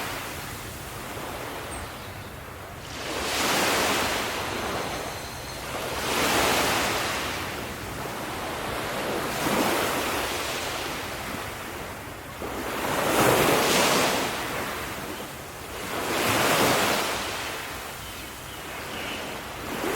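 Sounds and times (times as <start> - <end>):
ocean waves breaking on shore: 0.0 - 19.9.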